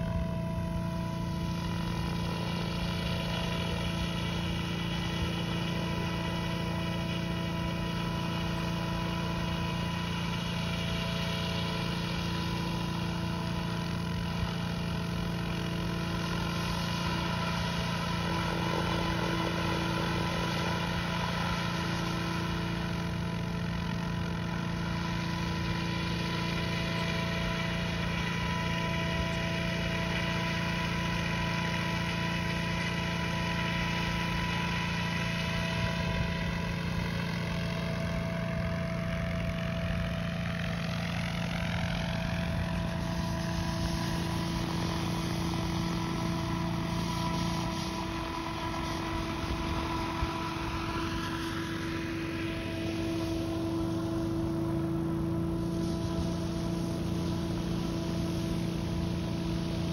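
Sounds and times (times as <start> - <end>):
model helicopter engine and rotor: 0.0 - 59.9.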